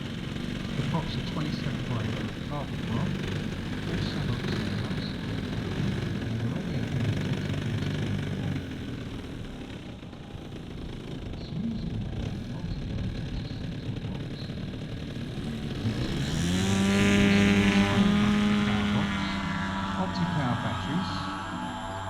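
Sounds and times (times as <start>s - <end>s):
model airplane engine running: 0.0s - 22.0s.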